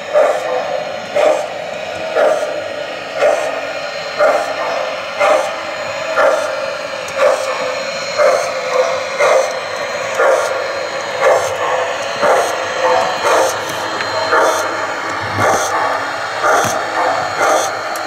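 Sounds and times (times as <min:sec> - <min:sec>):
model steam locomotive chuffing: 0:00.0 - 0:18.0
steady running hum: 0:00.0 - 0:18.0.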